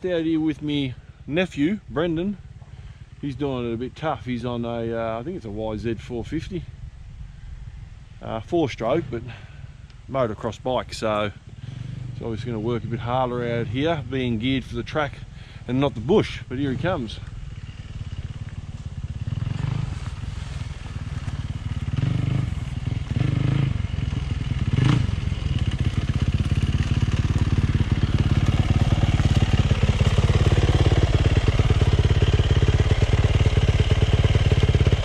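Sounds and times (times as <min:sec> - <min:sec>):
motocross bike engine approaching: 0:00.0 - 0:35.0
motocross bike throttle blips: 0:00.0 - 0:35.0.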